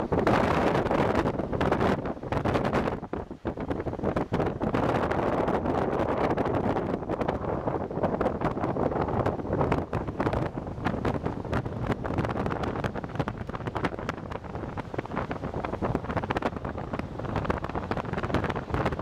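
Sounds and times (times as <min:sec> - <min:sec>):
car running and road noise: 0:00.0 - 0:19.0
wind buffeting microphone: 0:00.0 - 0:19.0.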